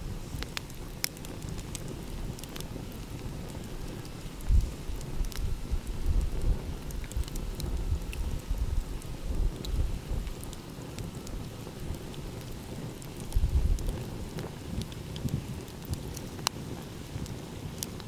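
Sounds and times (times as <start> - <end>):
wind: 0.0 - 18.0
wood fire crackling and popping: 0.0 - 18.0.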